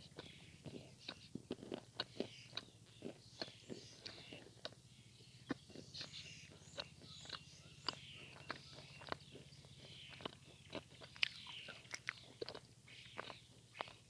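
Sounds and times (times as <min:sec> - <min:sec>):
chalk crunching while chewed: 0:00.0 - 0:04.8, 0:05.4 - 0:14.0.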